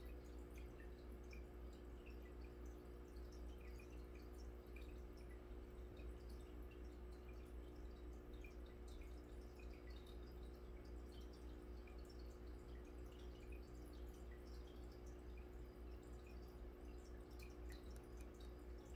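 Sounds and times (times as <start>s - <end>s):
aquarium bubbles popping: 0.0s - 18.9s.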